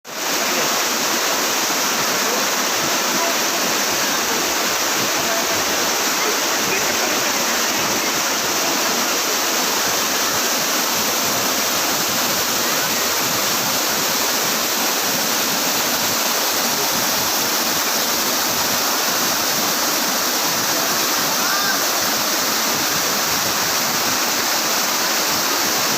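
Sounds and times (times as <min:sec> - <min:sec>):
waterfall rushing: 0:00.1 - 0:25.9.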